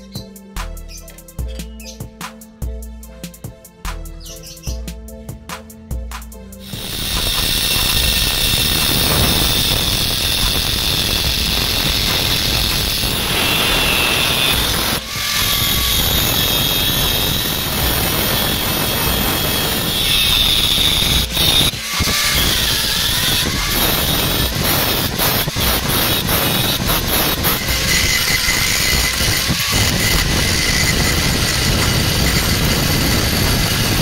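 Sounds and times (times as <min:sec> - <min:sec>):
angle grinder cutting steel: 0:06.6 - 0:34.0.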